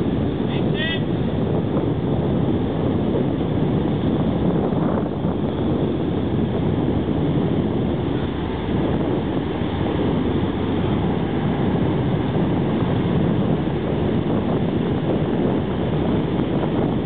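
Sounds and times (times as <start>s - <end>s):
ship low rumble: 0.0s - 17.0s
wind on microphone: 0.0s - 17.0s.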